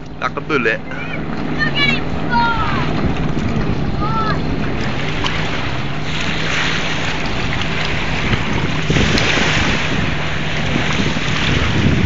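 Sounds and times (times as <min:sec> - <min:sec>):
jet ski engine droning: 0:00.0 - 0:12.0
wind buffeting microphone: 0:00.0 - 0:12.0.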